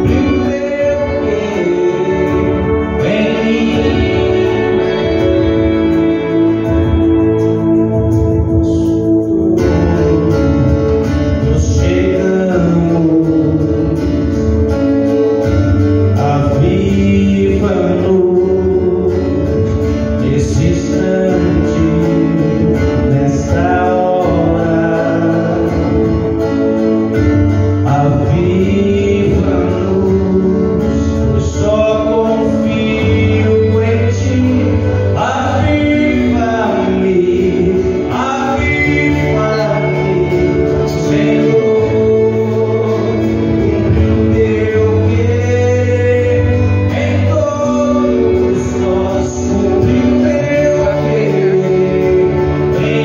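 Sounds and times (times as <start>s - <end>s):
guitar accompaniment: 0.0s - 53.0s
man singing into a microphone: 0.0s - 53.0s.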